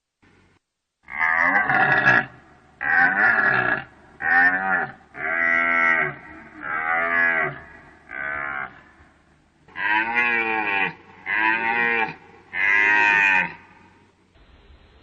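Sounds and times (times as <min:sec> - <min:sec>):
deer calling: 0:01.1 - 0:13.9.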